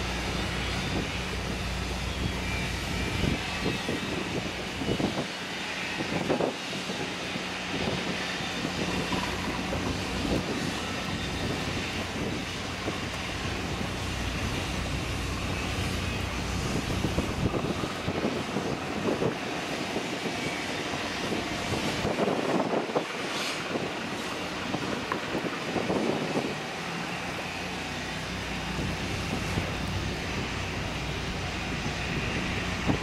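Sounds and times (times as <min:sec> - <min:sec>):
low drone of ship engines: 0:00.0 - 0:33.0
wind buffeting microphone: 0:00.0 - 0:33.0.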